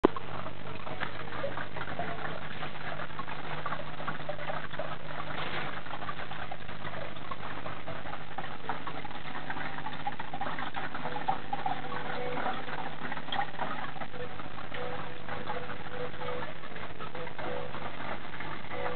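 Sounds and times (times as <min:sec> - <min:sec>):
aquarium equipment humming: 0:00.0 - 0:18.9
crackly noise: 0:00.0 - 0:18.9.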